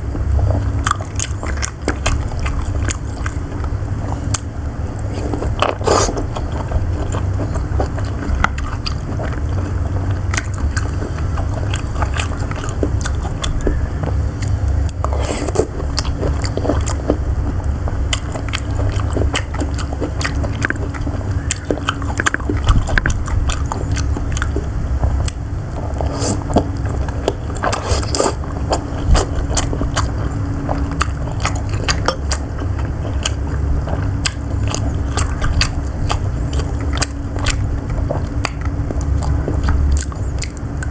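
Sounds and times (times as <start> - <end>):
biting and chewing: 0.0 - 40.9
steady low hum: 0.0 - 40.9.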